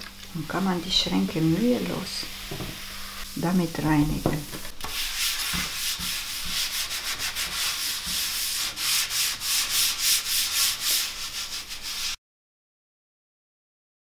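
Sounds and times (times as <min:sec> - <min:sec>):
sponge scrubbing cabinet door: 0:00.5 - 0:12.2.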